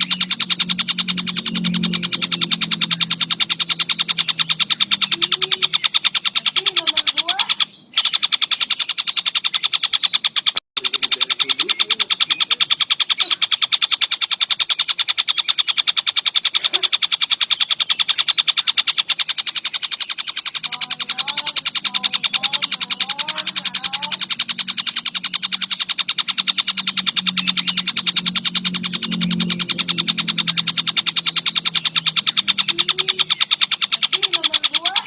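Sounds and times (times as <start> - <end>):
faint chirps: 0.0 - 35.0
kingfisher rattling call: 0.0 - 35.0.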